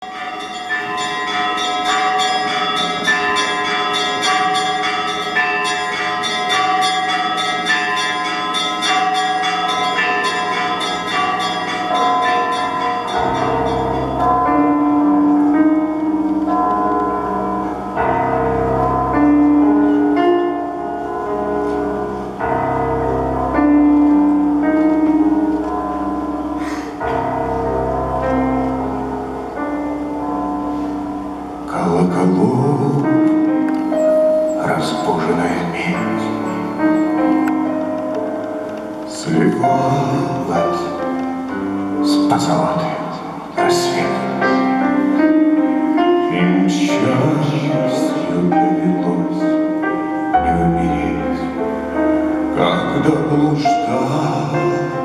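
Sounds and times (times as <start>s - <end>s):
bells ringing: 0.0s - 55.0s
sustained backing music: 0.0s - 55.0s.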